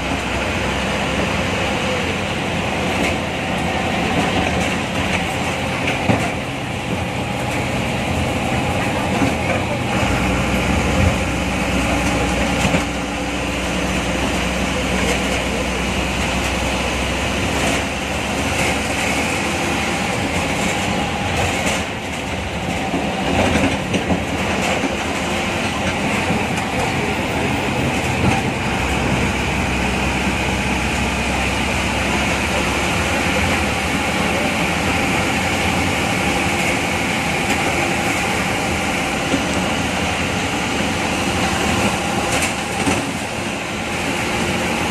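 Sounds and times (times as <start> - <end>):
bus body rattling: 0.0 - 44.9
bus diesel engine running: 0.0 - 44.9
road noise: 0.0 - 44.9.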